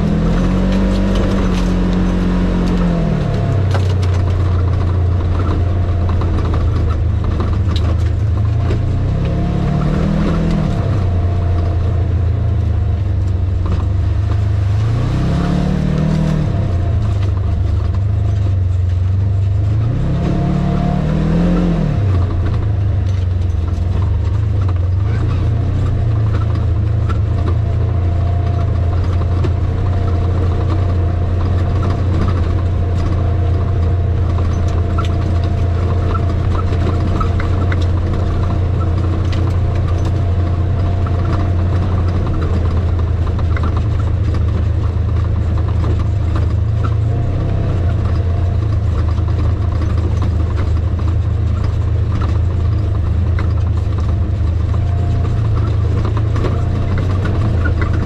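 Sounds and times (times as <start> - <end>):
clicks and knocks on rocky track: 0.0 - 58.0
vehicle engine droning: 0.0 - 58.0.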